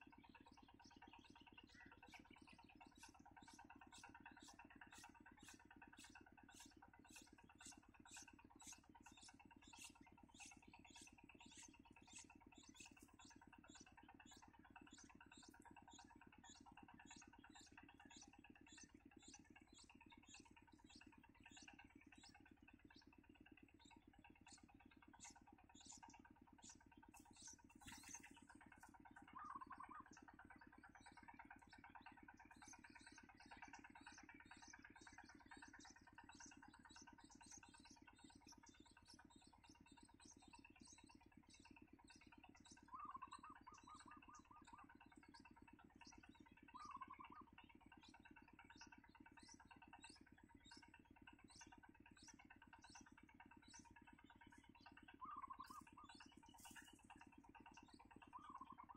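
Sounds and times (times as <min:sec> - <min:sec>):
bird trills: 0:00.0 - 0:58.9
low steady hum: 0:00.0 - 0:58.9.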